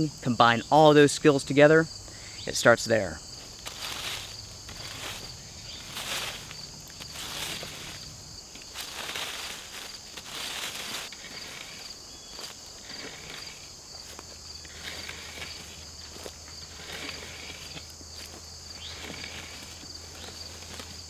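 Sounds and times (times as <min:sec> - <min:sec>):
insects droning: 0:00.0 - 0:21.0
stick dragged through dry leaves: 0:03.4 - 0:21.0.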